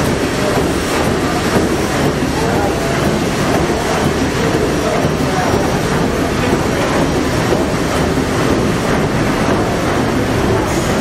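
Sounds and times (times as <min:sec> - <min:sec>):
steam engine room machinery clatter: 0:00.0 - 0:11.0.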